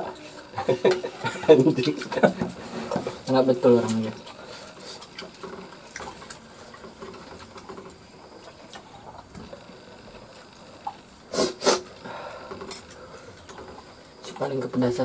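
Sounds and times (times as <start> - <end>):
eating from plates: 0.0 - 15.0.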